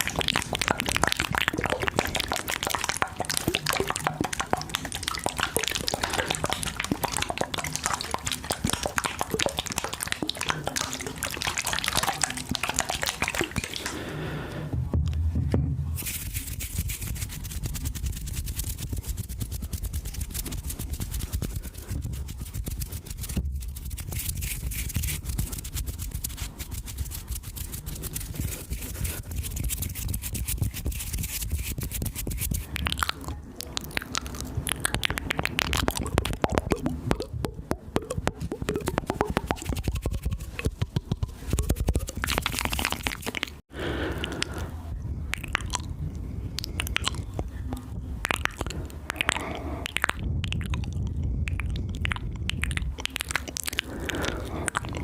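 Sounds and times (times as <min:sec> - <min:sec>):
wet mouth clicks and smacks: 0:00.0 - 0:14.1, 0:16.0 - 0:44.7, 0:45.3 - 0:55.0.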